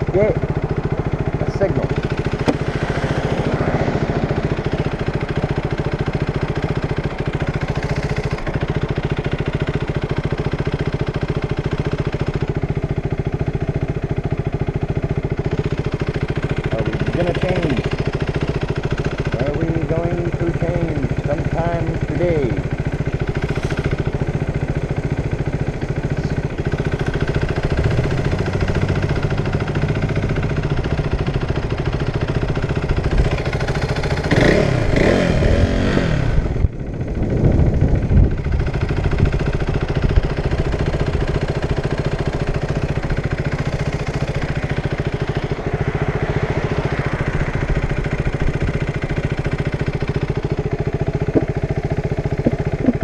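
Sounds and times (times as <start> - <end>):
motorcycle engine idling: 0.0 - 53.0.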